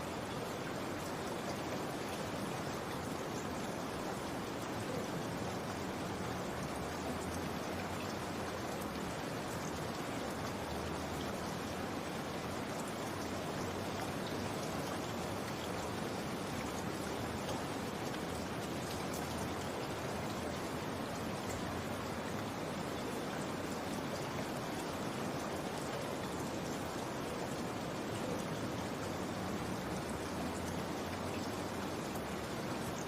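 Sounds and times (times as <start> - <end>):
steady rain pattering: 0.0 - 33.0.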